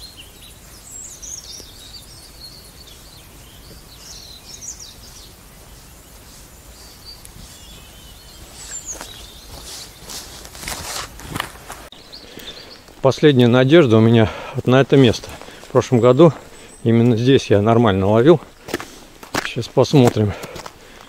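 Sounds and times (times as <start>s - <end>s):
low outdoor background: 0.0s - 21.0s
songbirds chirping: 0.0s - 21.0s
footsteps on ground: 3.4s - 21.0s.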